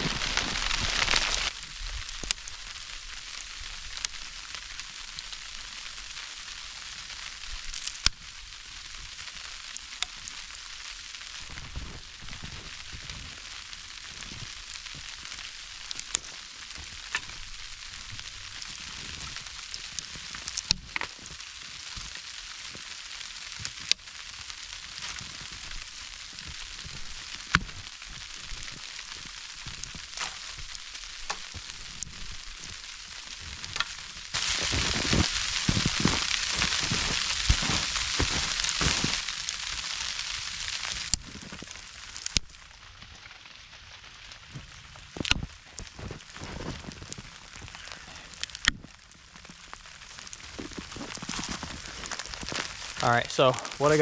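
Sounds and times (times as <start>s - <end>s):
icy snow falling hiss: 0.0s - 54.0s
snow ticks: 0.0s - 54.0s.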